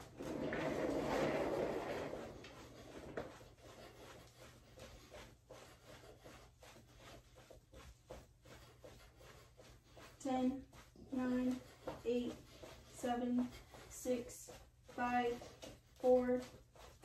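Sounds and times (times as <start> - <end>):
rustling noise: 0.0 - 17.0.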